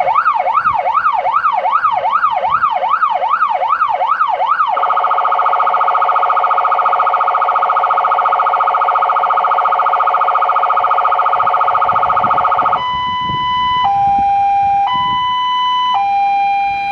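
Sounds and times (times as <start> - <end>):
electronic siren: 0.0 - 16.9.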